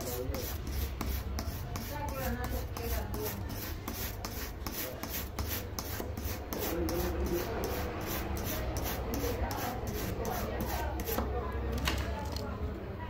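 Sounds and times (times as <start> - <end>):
brush scrubbing circuit board: 0.0 - 11.2.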